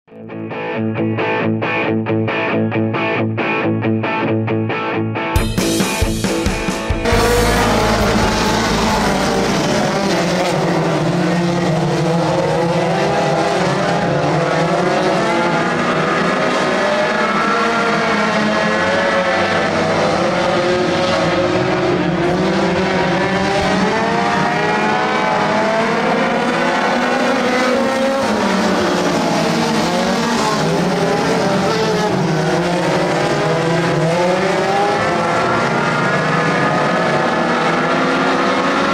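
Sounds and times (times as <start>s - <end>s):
race car engines revving: 7.0s - 38.9s.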